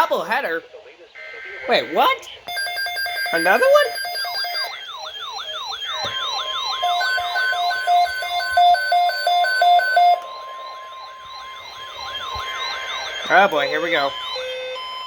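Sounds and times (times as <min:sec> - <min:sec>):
alternating two-note beeping: 0:01.2 - 0:15.0
falling electronic siren sweeps: 0:01.2 - 0:15.0
fast high warble: 0:01.2 - 0:15.0
steady alarm tone: 0:01.2 - 0:15.0.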